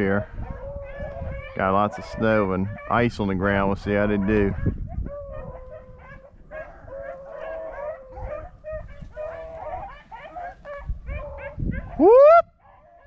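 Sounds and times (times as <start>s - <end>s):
dog howling: 0.0s - 3.1s, 4.0s - 13.0s
hounds baying and yelping: 0.0s - 13.0s.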